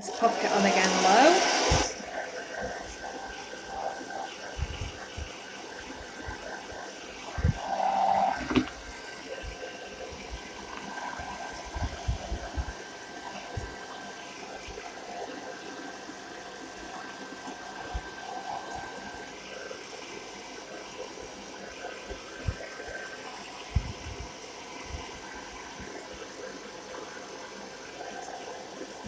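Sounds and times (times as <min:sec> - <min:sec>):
hair dryer blowing: 0:00.0 - 0:15.9, 0:16.8 - 0:26.6.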